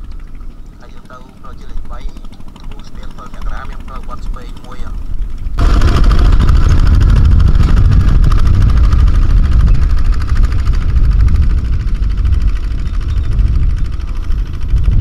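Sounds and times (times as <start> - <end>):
diesel tractor engines running: 0.0 - 15.0.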